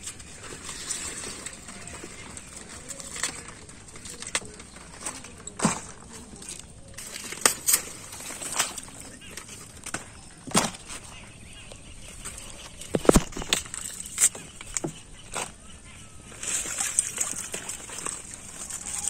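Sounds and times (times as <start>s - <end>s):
plant stems snapping and rustling: 0.0s - 11.0s, 12.1s - 15.6s, 16.4s - 19.0s.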